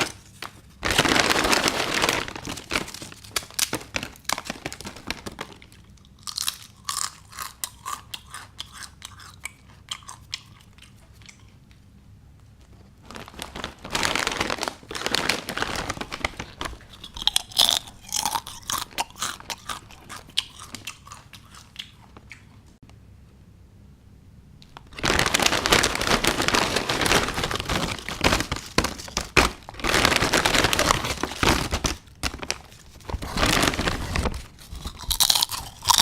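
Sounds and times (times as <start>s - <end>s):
potato chips crunching: 0.0s - 11.5s, 13.0s - 22.6s, 24.6s - 36.0s.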